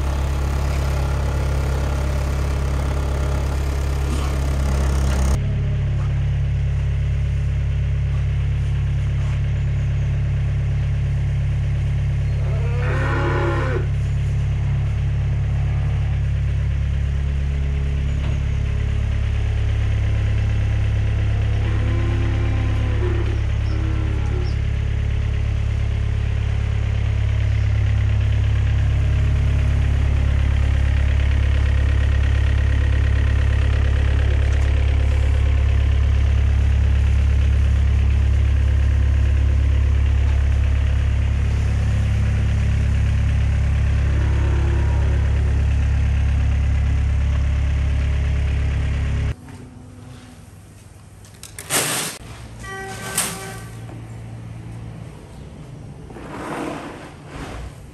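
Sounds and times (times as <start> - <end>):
loader engine idling: 0.0 - 51.6, 52.2 - 57.9.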